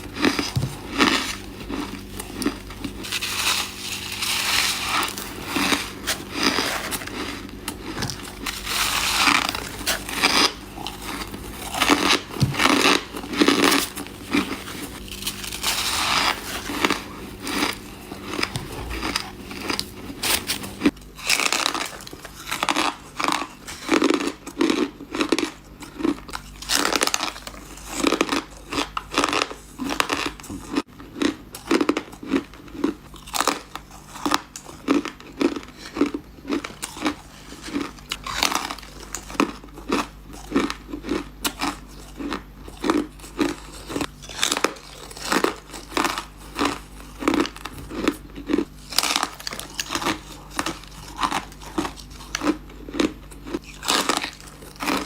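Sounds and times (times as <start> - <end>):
ice being chewed crunching: 0.0 - 55.0.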